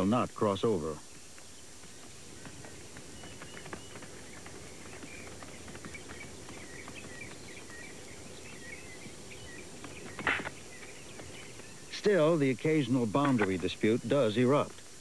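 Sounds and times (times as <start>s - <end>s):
small birds chirping: 0.0s - 15.0s
steady hiss: 0.0s - 15.0s.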